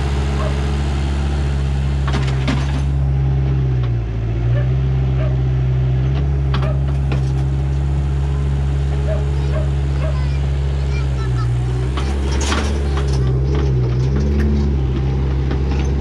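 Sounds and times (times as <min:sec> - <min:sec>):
backhoe diesel engine: 0:00.0 - 0:16.0.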